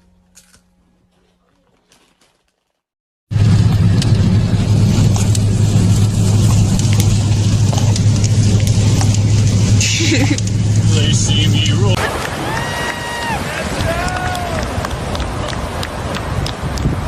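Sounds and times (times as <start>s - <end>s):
motor vehicle rumble with hiss: 3.3s - 17.0s.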